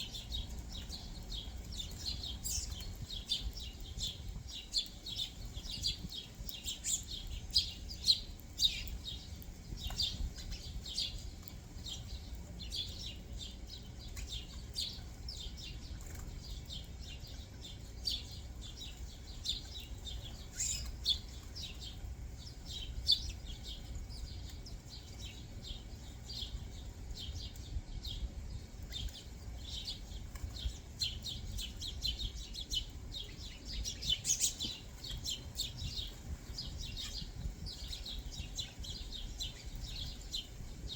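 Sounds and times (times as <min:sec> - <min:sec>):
low background rumble: 0:00.0 - 0:40.9
songbirds chirping: 0:00.0 - 0:40.9.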